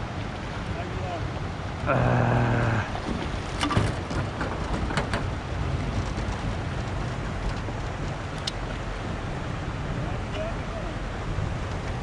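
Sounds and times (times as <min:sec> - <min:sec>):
boat engine rumble and hiss: 0:00.0 - 0:04.6, 0:05.2 - 0:12.0.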